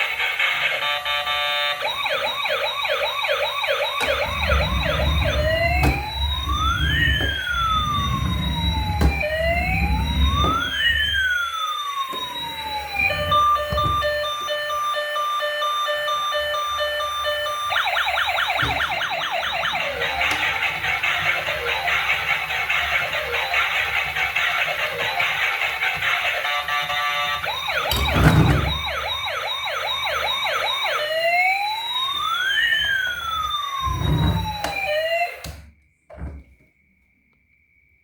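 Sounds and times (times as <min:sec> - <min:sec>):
toy electronic siren: 0:00.0 - 0:36.4.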